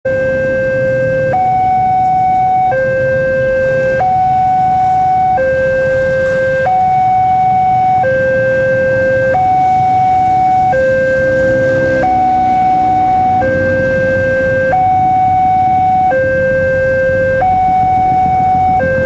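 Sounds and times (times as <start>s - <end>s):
two-tone crossing alarm: 0.1s - 19.0s.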